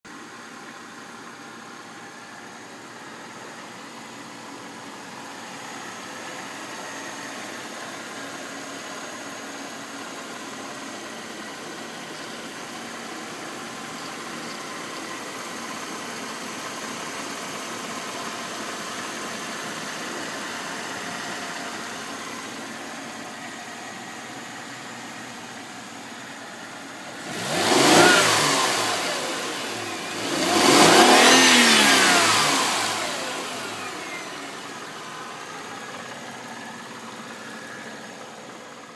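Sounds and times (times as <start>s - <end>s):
car engine idling and revving: 0.1s - 38.9s.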